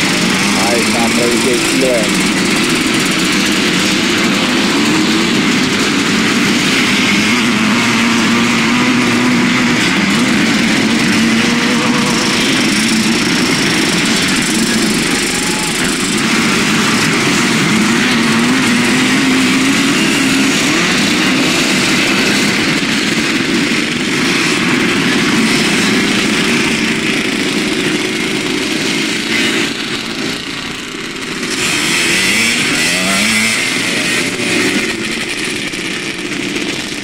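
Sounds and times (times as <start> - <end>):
motorcycles racing past: 0.0 - 28.0, 31.4 - 37.0.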